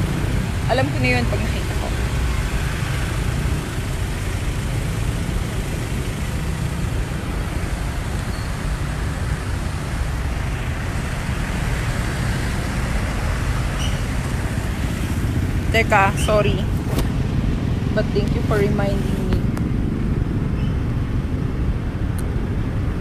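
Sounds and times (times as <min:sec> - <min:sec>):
motorcycle engine: 0:00.0 - 0:22.1
road noise: 0:00.0 - 0:23.0.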